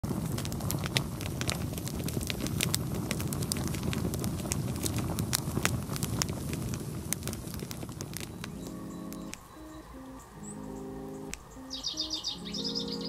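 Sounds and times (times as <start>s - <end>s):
fire low rush: 0.0s - 12.6s
campfire crackling and popping: 0.0s - 13.0s.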